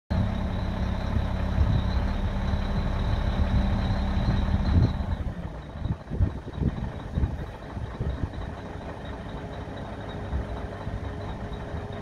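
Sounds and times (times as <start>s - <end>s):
diesel truck engine running: 0.1s - 12.0s.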